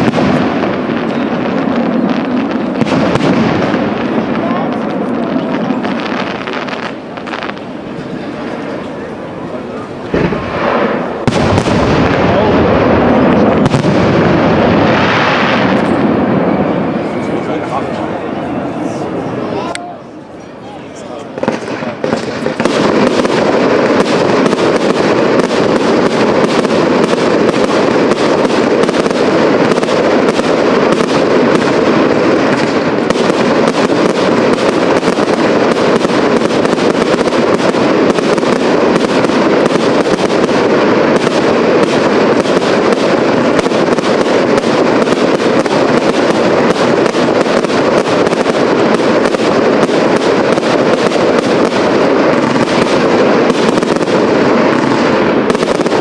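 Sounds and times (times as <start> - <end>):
fireworks bangs: 0.0 - 56.0.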